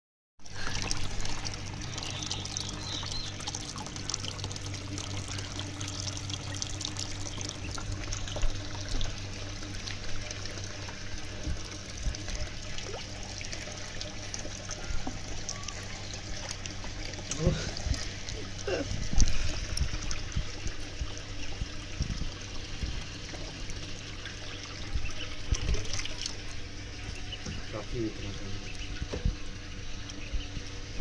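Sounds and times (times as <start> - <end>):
hose water splashing into tub: 0.4 - 29.5
low hum: 0.4 - 31.0.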